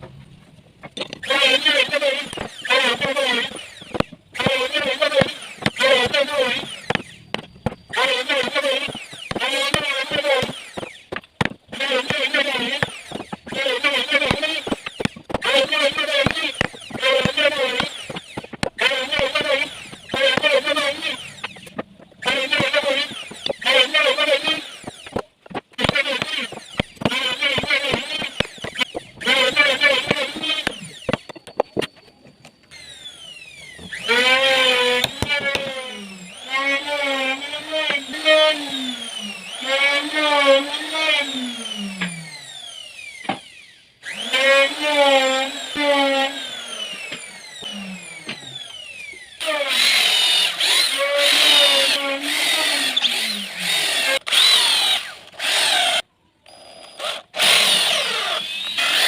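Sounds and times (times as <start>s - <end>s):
drum sander motor sanding wood: 0.0s - 56.0s, 57.0s - 59.0s.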